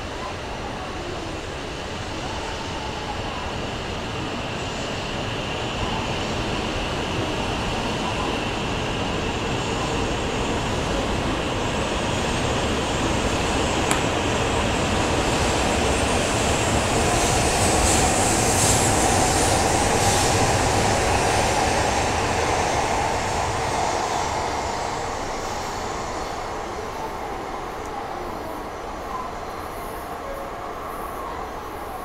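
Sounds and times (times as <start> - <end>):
train wheel noise with whine: 0.0 - 32.0.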